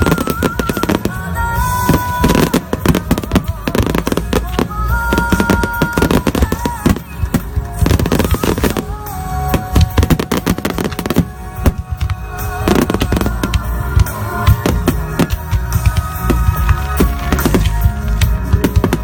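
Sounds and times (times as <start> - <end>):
fireworks bursting: 0.0 - 19.0
music playing: 0.0 - 19.0.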